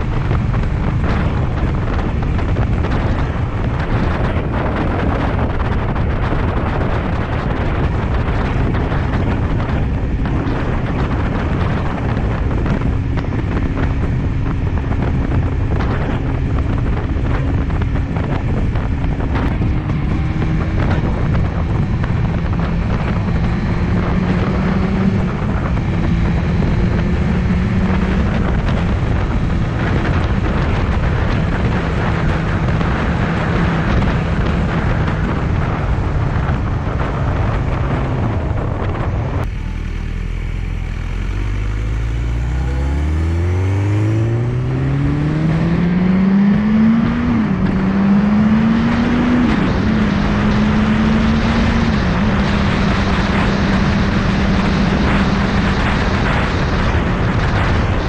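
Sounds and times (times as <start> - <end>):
heavy wind noise: 0.0 - 58.0
motorcycle engine accelerating: 0.0 - 58.0.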